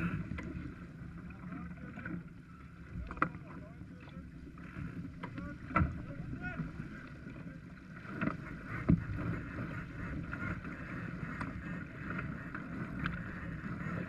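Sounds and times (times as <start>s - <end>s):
water rushing along hull: 0.0s - 14.0s.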